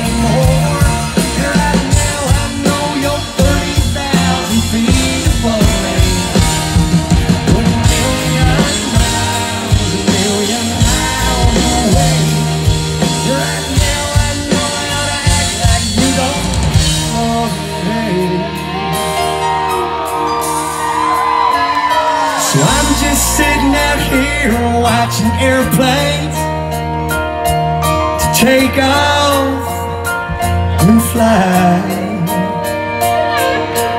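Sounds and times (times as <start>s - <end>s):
man singing into microphone: 0.0s - 19.8s, 22.0s - 26.5s, 28.1s - 33.9s
country rock band playing: 0.0s - 33.9s.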